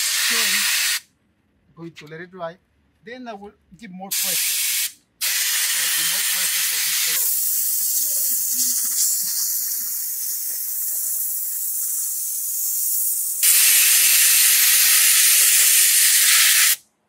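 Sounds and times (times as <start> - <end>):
spray gun hissing: 0.0 - 1.0, 4.1 - 16.8.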